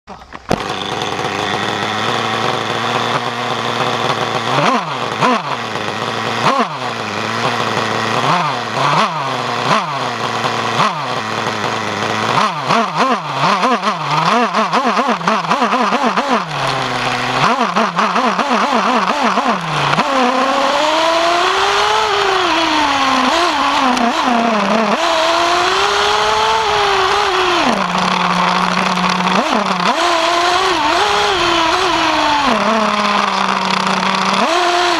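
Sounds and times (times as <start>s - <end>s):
model engine revving: 0.1s - 34.9s.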